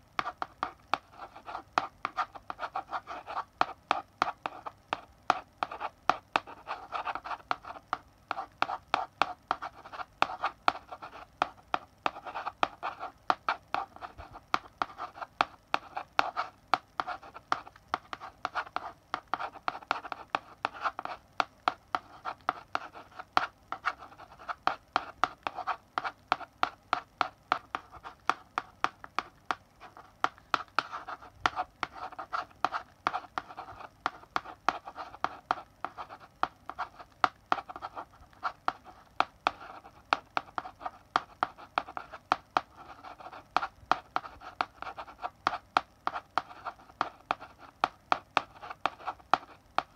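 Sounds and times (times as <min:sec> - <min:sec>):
chalk writing on blackboard: 0:00.0 - 0:49.9.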